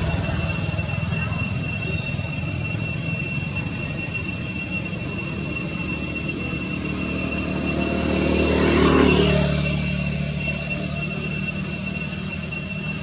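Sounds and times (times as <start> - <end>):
low rumble: 0.0 - 10.8
high-pitched whine: 0.0 - 13.0.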